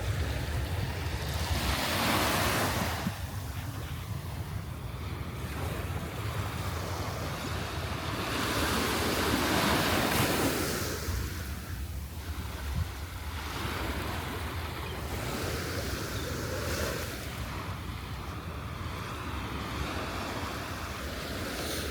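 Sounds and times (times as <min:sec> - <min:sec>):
waves washing onto beach: 0:00.0 - 0:21.9
wind rumble on microphone: 0:00.0 - 0:21.9.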